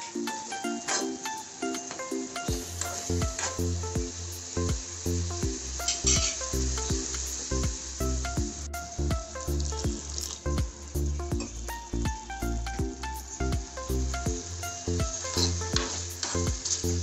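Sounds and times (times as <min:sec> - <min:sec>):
food sizzling in a pan: 0:00.0 - 0:12.0, 0:12.9 - 0:17.0
background music with bass line: 0:00.0 - 0:17.0.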